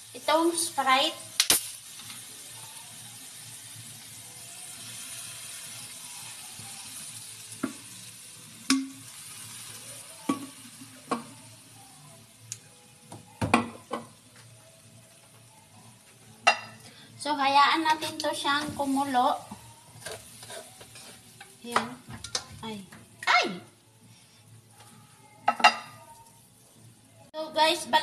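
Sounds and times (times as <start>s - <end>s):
liquid sizzling in a hot wok: 0.0s - 28.0s.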